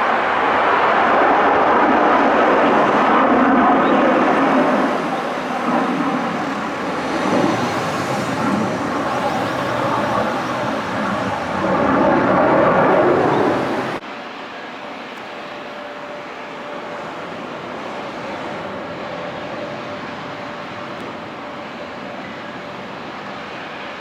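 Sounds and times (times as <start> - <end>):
fighter jet flying overhead: 0.0 - 24.0.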